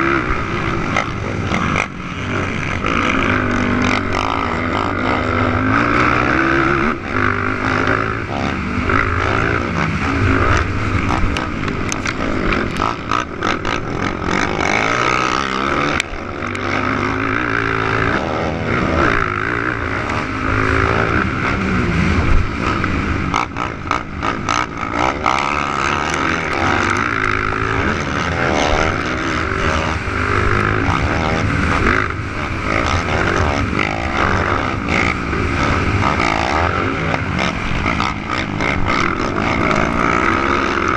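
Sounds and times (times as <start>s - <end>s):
quad engines revving: 0.0s - 40.9s.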